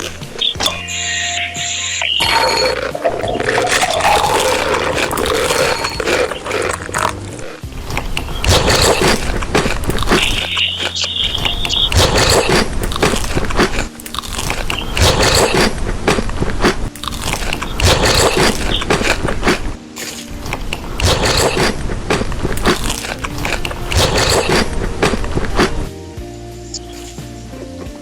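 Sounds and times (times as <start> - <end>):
chewing crunchy food: 0.0 - 0.9, 2.0 - 25.9, 26.8 - 27.4.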